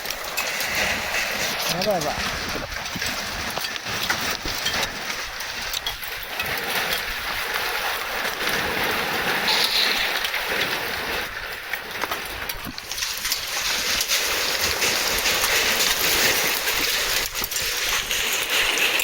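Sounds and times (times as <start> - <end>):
heavy rain pelting down: 0.0 - 19.0.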